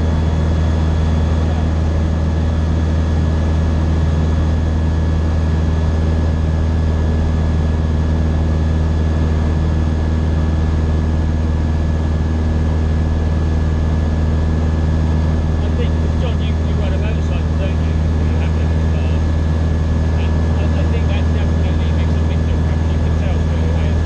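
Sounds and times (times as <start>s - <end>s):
aircraft engine droning: 0.0s - 24.0s.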